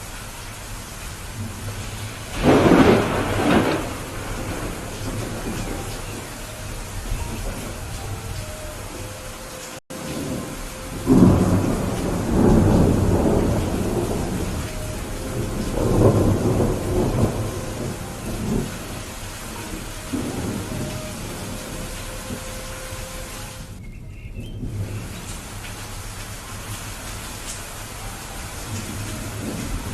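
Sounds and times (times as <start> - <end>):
steady rain: 0.0 - 29.9
thunder rolling: 1.0 - 23.8, 24.5 - 29.9.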